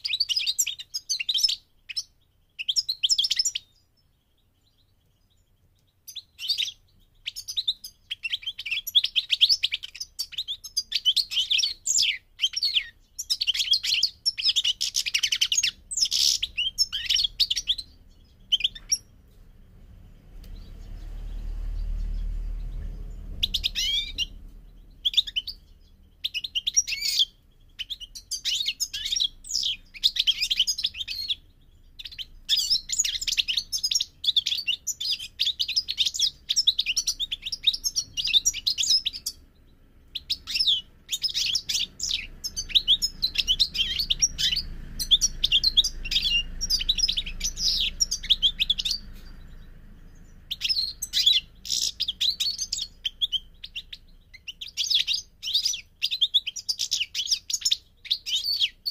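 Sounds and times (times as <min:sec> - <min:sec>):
goldfinch singing: 0:00.0 - 0:58.9.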